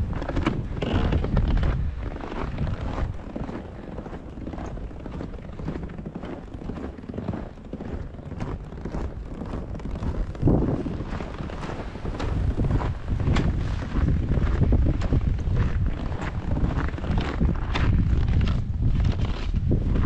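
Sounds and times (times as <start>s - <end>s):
footsteps crunching in snow: 0.0s - 20.0s
wind buffeting microphone: 0.0s - 20.0s.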